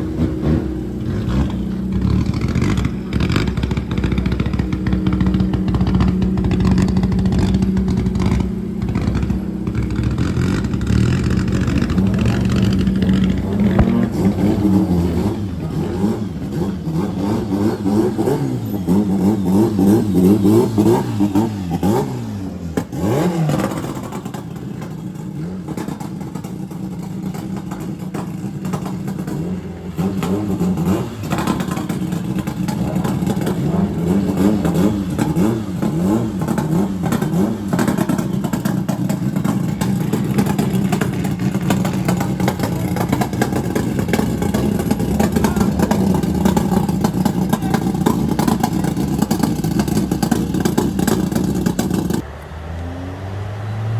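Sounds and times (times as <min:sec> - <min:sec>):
car engines idling and revving: 0:00.0 - 0:53.9.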